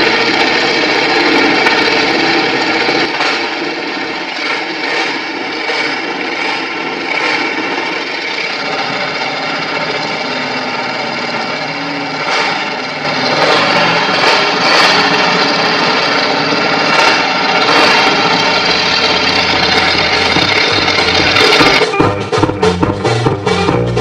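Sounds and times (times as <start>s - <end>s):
large engine running: 0.0s - 24.0s.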